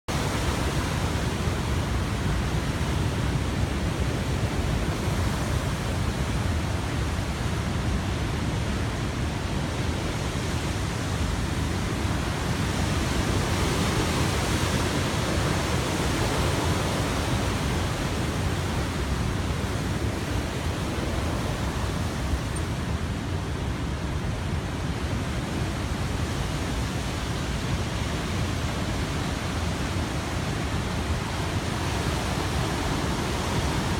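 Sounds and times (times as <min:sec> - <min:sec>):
heavy ocean surf breaking: 0:00.1 - 0:33.9.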